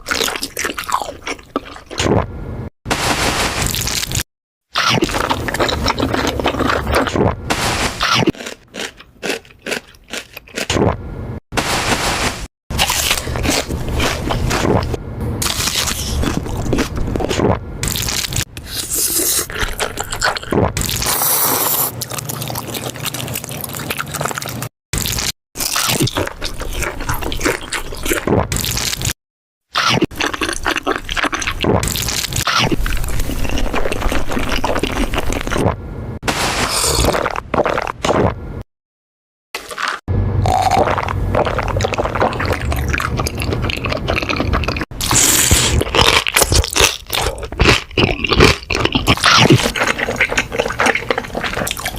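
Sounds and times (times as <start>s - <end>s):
crunchy food chewing: 0.0s - 2.3s, 4.8s - 11.0s, 12.8s - 29.2s, 29.8s - 38.4s, 39.6s - 51.9s.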